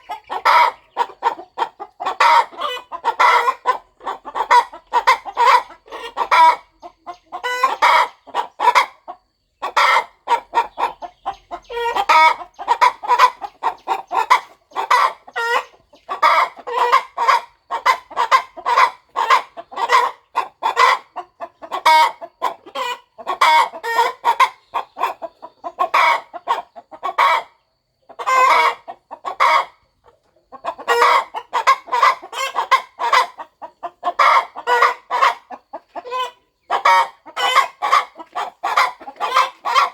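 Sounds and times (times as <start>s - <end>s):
hen clucking: 0.0s - 39.9s.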